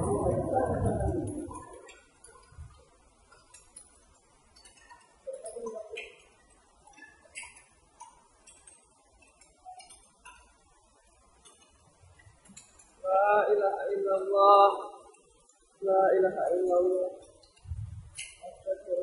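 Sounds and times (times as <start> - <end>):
hailstones ticking on hard surfaces: 0.0 - 19.0.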